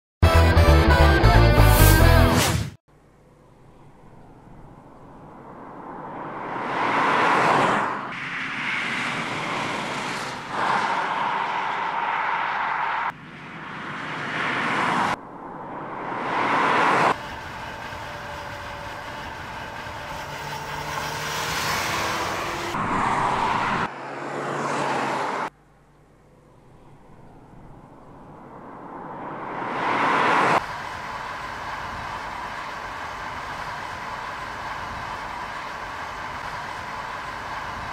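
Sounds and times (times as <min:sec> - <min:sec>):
car engine passing by: 0:01.6 - 0:02.6, 0:03.6 - 0:25.6, 0:26.4 - 0:37.9
car engine accelerating: 0:03.6 - 0:37.9.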